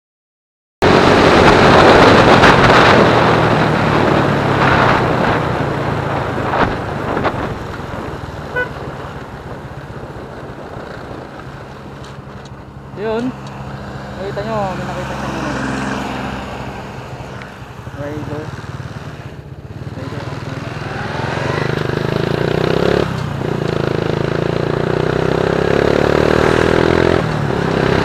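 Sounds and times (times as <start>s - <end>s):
wind rush: 0.8s - 24.1s
motorcycle engine running: 0.8s - 28.0s.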